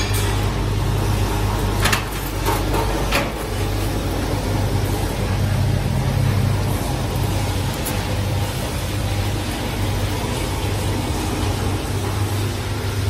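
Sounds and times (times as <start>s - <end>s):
wire stripping machine humming: 0.0s - 13.0s.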